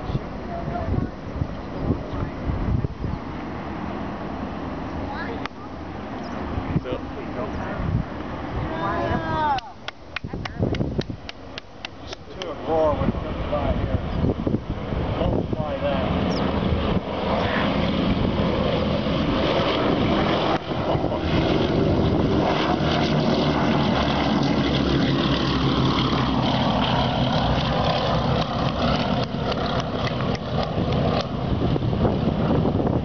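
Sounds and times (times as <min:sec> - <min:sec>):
propeller aircraft engines droning: 0:00.0 - 0:33.0.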